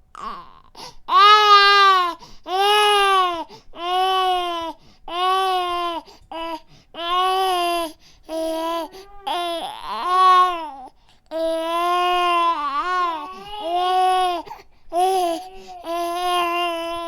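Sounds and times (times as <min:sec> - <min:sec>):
infant crying: 0:00.1 - 0:17.0.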